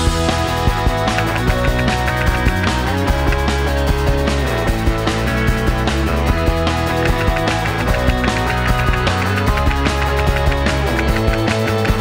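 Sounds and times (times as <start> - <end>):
rock music with driving beat: 0.0 - 12.0.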